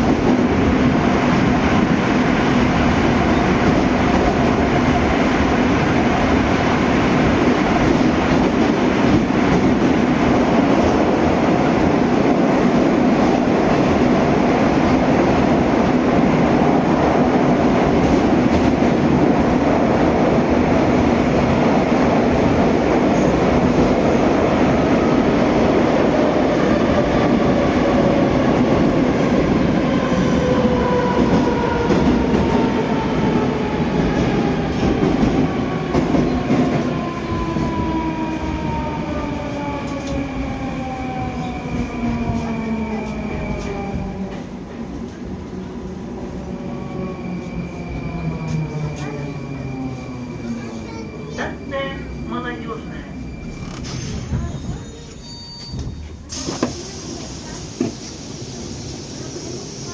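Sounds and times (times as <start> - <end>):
metro train wheels rolling on rail: 0.0 - 59.9.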